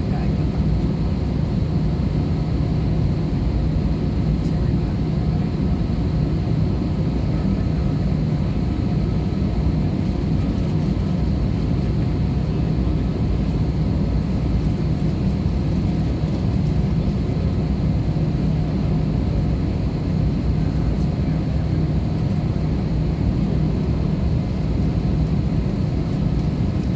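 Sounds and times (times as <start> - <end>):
airplane cabin engine drone: 0.0 - 26.9.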